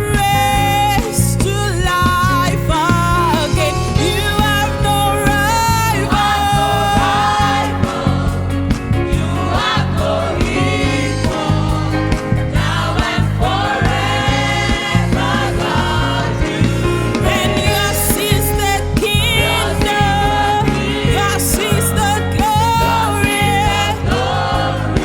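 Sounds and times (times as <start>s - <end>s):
band accompaniment: 0.0s - 25.0s
steady bass beat: 0.0s - 25.0s
youth choir singing gospel: 0.0s - 25.0s.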